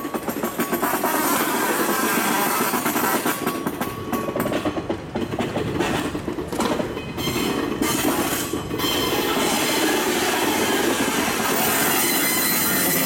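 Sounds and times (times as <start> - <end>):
train rumble: 0.0 - 13.0
train wheels clacking over rail joints: 0.0 - 13.0.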